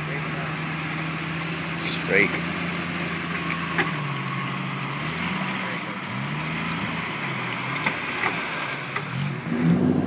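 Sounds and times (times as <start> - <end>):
car engine under light throttle: 0.0 - 10.0.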